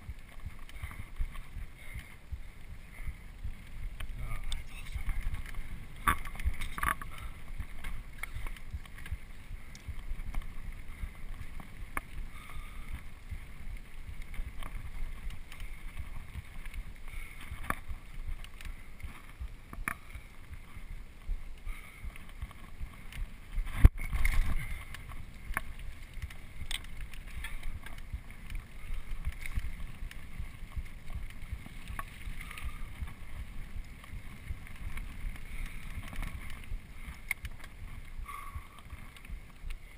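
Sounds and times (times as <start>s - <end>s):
bike rattles and clicks: 0.0s - 39.9s
tyres rumbling on dirt: 0.0s - 39.9s.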